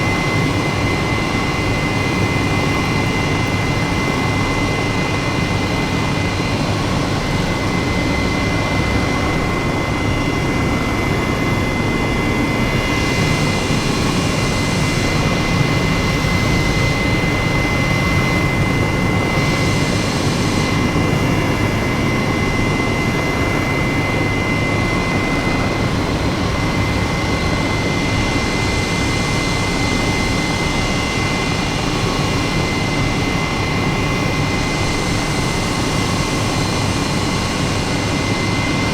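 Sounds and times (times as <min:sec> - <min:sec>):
engine drone with high whine: 0:00.0 - 0:38.9.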